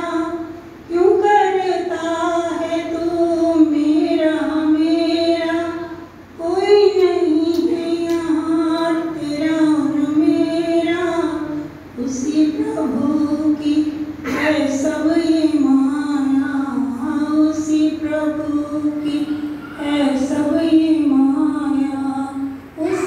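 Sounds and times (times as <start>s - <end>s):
woman singing devotional song: 0.0s - 23.0s.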